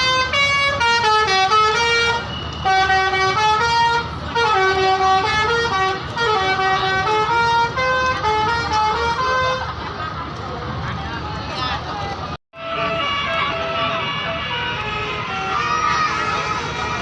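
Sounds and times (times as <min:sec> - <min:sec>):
musical air horn playing tune: 0:00.0 - 0:09.7, 0:12.6 - 0:17.0.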